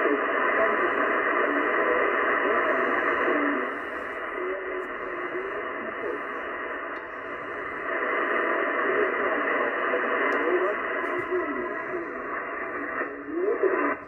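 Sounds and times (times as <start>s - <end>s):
radio static: 0.0s - 14.0s
weak radio voice: 0.0s - 14.0s.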